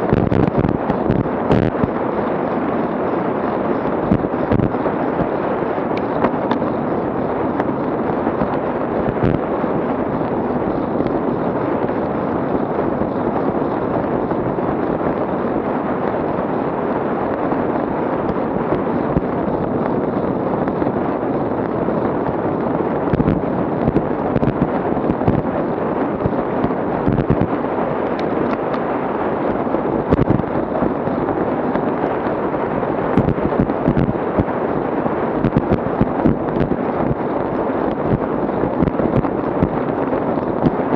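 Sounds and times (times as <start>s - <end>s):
microphone crackles and pops: 0.0s - 2.1s, 3.3s - 40.9s
wind noise on microphone: 0.0s - 40.9s.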